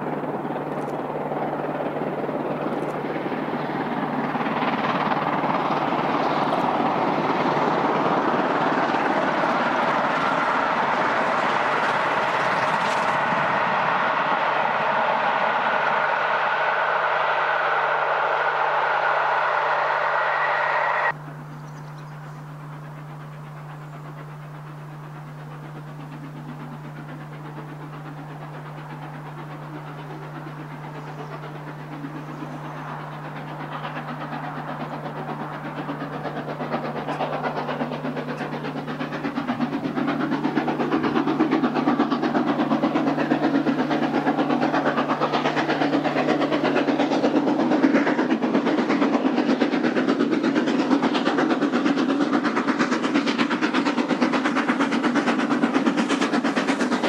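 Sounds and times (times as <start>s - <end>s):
steam locomotive approaching: 0.0s - 57.0s
train coaches rumbling on rails: 0.0s - 57.0s.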